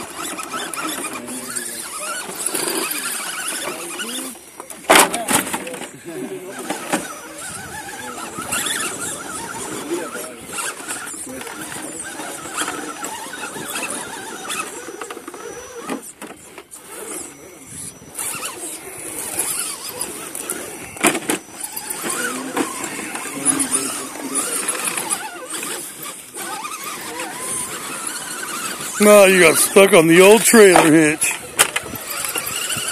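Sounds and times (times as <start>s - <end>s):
electric motors whining: 0.0s - 32.9s.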